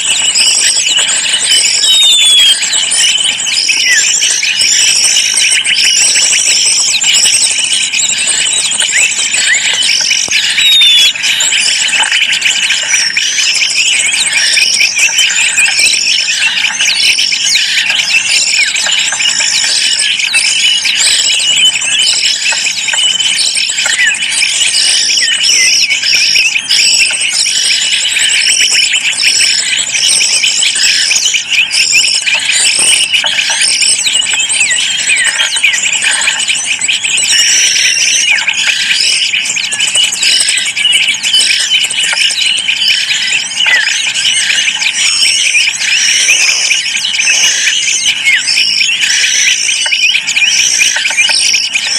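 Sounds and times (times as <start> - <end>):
songbirds chirping and twittering: 0.0 - 51.9.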